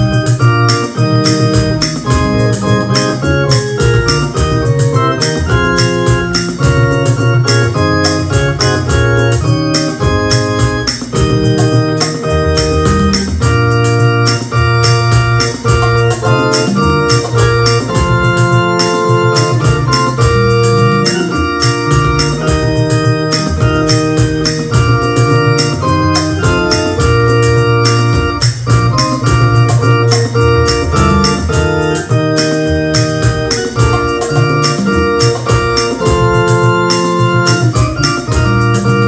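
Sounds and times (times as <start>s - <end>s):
electronic keyboard hymn: 0.0s - 39.0s
high percussive ticks: 0.0s - 39.0s.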